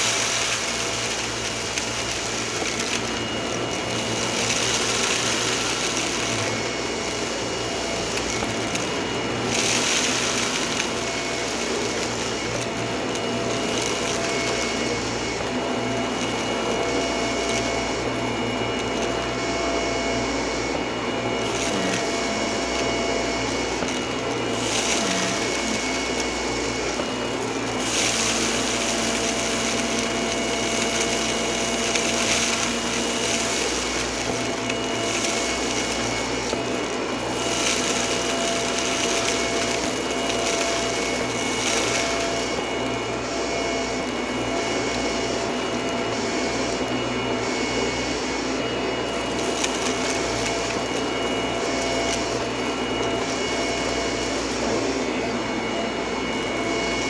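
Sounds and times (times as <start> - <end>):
vacuum cleaner running: 0.0 - 57.0
vacuum sucking crunchy debris: 0.0 - 57.0.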